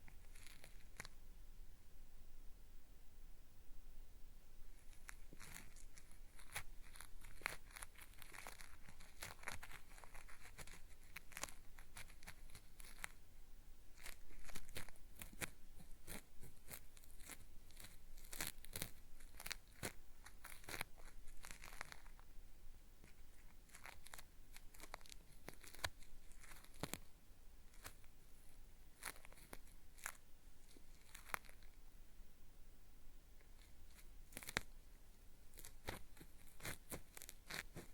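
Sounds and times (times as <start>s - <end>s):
cotton swab scraping microphone: 0.0s - 1.2s, 4.7s - 13.2s, 14.0s - 22.3s, 23.0s - 27.1s, 27.7s - 31.8s, 33.4s - 37.9s.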